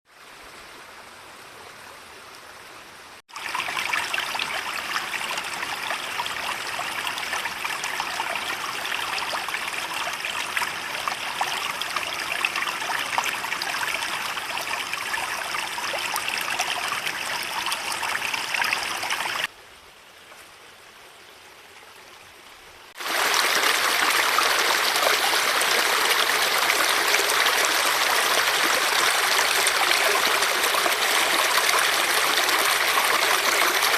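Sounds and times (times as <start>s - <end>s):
stream water running: 0.1s - 33.9s.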